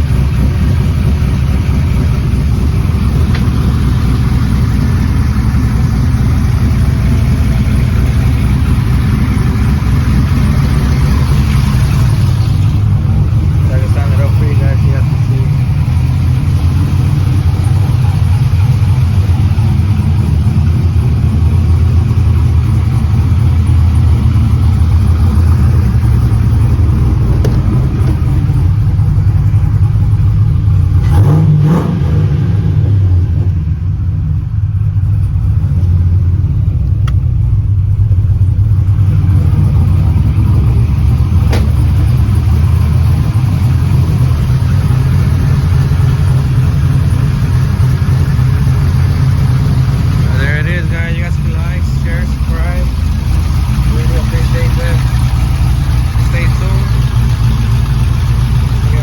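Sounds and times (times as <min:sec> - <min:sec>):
truck engine idling: 0:00.0 - 0:59.0
truck engine revving: 0:00.0 - 0:59.0.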